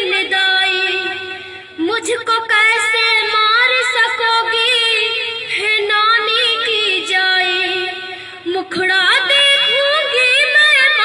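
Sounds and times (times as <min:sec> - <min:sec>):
girl singing: 0:00.0 - 0:11.0.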